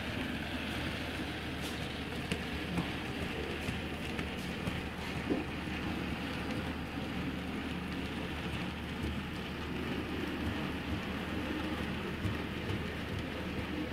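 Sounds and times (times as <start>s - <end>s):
model train wheels rattling on rails: 1.2s - 13.9s.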